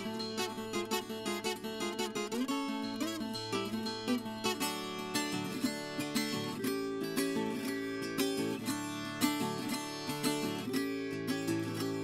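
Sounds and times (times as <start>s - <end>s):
fingerpicked guitar: 0.0s - 12.0s.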